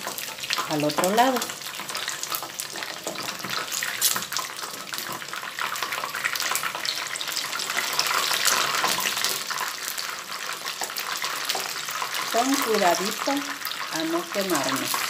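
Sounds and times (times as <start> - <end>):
chicken sizzling in hot oil: 0.0 - 15.0
tongs turning food in pan: 0.0 - 15.0.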